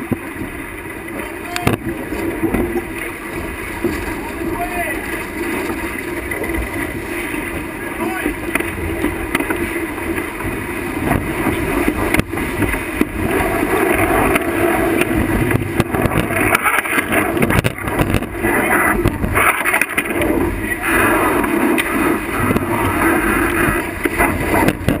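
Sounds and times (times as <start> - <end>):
water rushing past hull: 0.0 - 25.0
wind buffeting microphone: 0.0 - 25.0.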